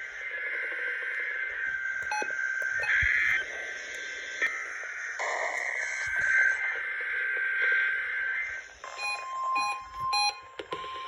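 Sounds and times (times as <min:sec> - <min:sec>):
radio static hiss: 0:00.0 - 0:08.9.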